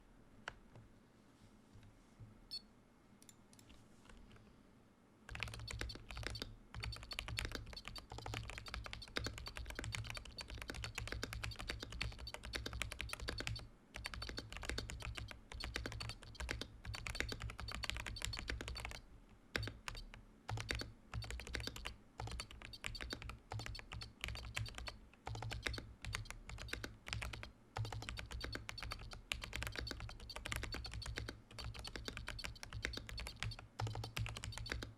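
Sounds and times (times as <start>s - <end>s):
mechanical keyboard typing: 5.3s - 19.0s, 19.6s - 34.9s.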